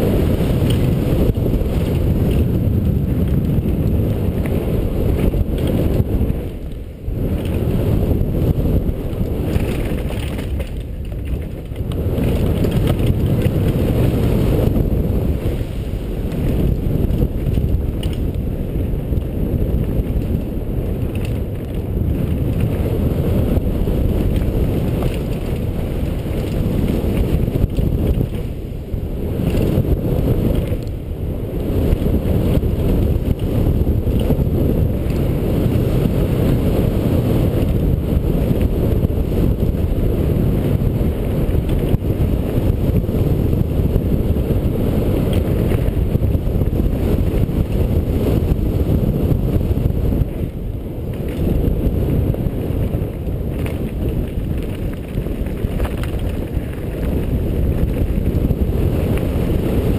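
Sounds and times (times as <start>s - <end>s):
tyres rolling on gravel: 0.0s - 36.6s, 37.2s - 59.9s
wind buffeting microphone: 0.0s - 59.9s.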